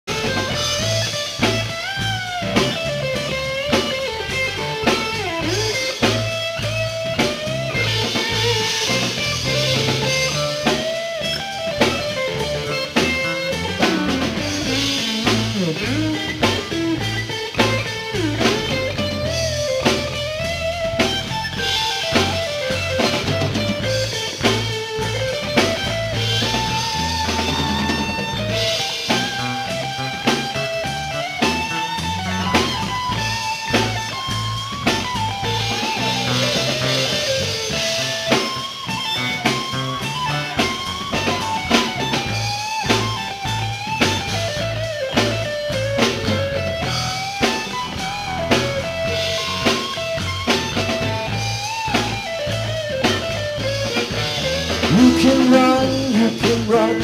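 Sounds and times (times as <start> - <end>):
bass guitar: 0.0 - 57.0
drum kit: 0.0 - 57.0
electric guitar lead: 0.0 - 57.0.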